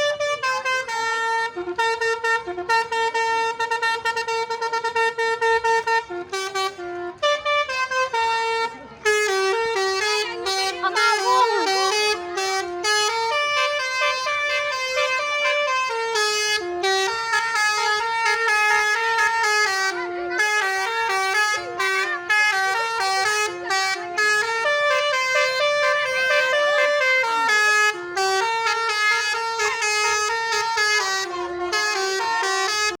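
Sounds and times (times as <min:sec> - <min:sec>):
musical air horn playing a tune: 0:00.0 - 0:33.0.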